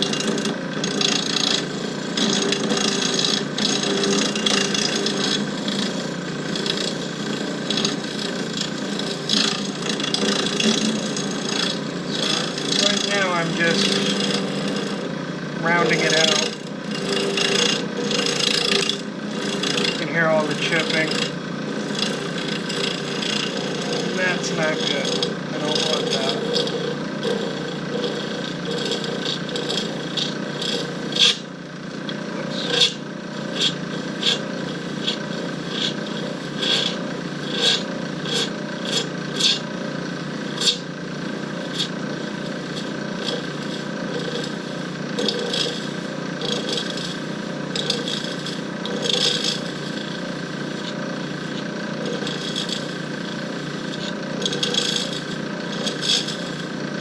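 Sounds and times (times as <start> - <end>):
lathe motor hum: 0.0 - 57.0
turning tool ticking and scraping: 0.0 - 57.0.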